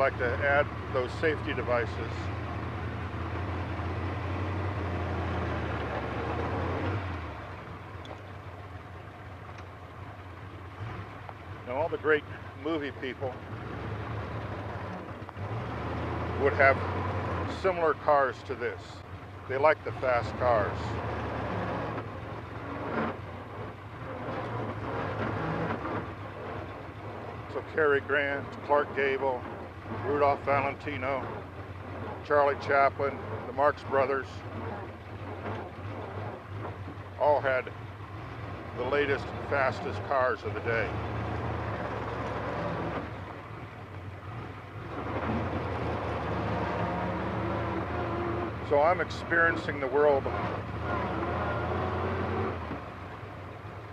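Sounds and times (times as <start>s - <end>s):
racing car engine droning: 0.0s - 53.9s.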